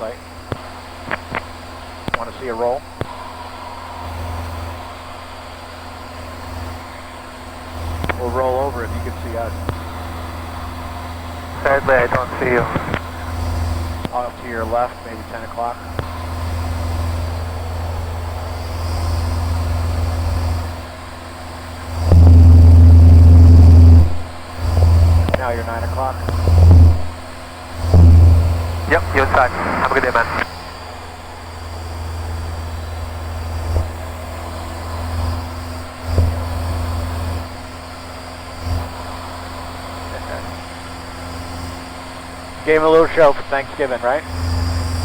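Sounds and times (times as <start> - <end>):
aircraft engine drone: 0.0 - 45.0
loud steady drone: 0.0 - 45.0.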